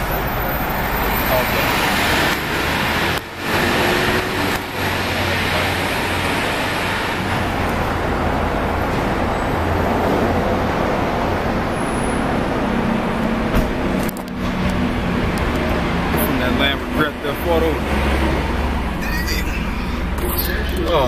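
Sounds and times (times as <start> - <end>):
road traffic rumble and hiss: 0.0 - 21.0
vehicle engines idling: 0.0 - 21.0.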